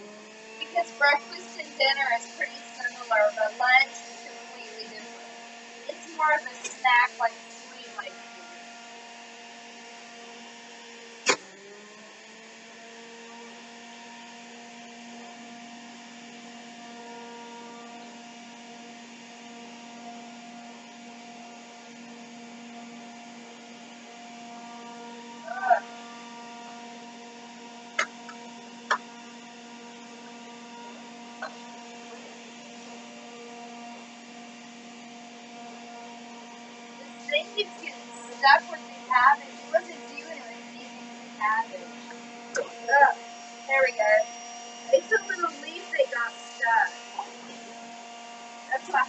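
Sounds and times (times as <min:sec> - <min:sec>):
juicer motor humming: 0:00.0 - 0:49.0.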